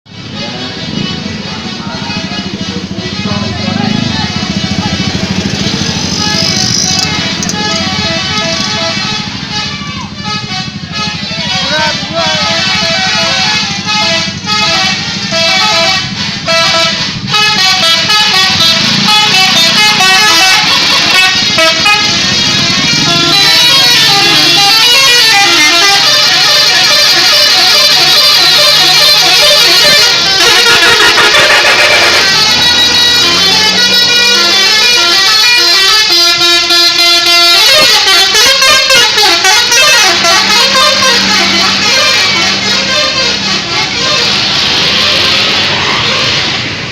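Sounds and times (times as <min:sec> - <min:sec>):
musical bus horns playing tune: 0:00.2 - 0:46.9.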